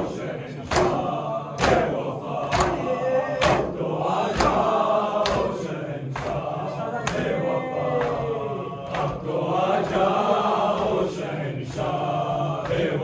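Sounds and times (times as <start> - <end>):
men chanting in unison: 0.0 - 13.0
rhythmic chest-beating slaps: 0.0 - 13.0.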